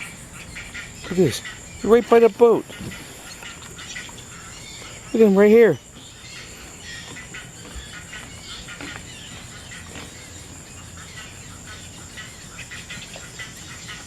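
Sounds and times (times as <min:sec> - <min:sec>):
insect chirps and ticks: 0:00.0 - 0:14.0
insects trilling: 0:00.0 - 0:14.0.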